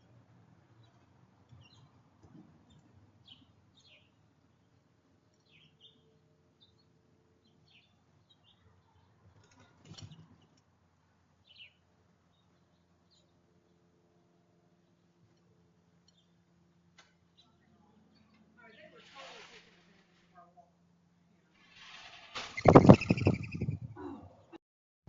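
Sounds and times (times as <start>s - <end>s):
songbirds chirping: 0.6s - 19.2s, 22.6s - 24.6s.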